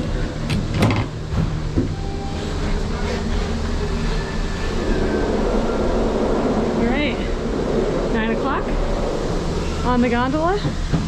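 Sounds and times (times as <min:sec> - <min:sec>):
machinery rumble and hum: 0:00.0 - 0:11.0.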